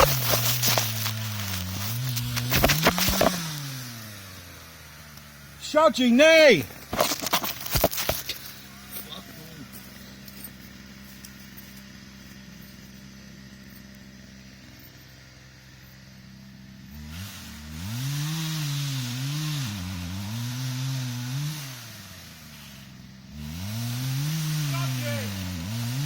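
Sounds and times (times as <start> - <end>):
chainsaw idling and revving: 0.0 - 26.0.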